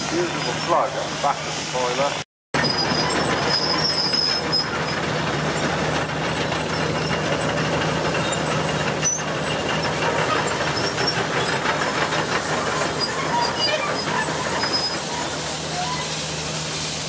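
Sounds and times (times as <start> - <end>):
steam wagon running: 0.0 - 17.0.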